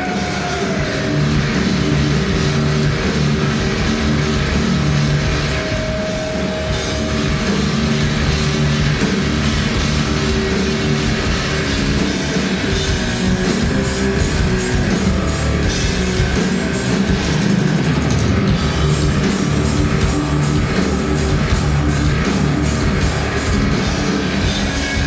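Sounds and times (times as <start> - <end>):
heavy metal band playing: 0.0 - 25.0.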